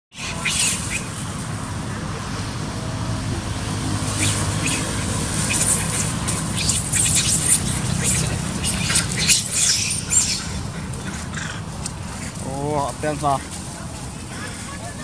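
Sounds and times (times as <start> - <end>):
monkeys scuffling in dry leaves: 0.2 - 2.2, 3.9 - 15.0.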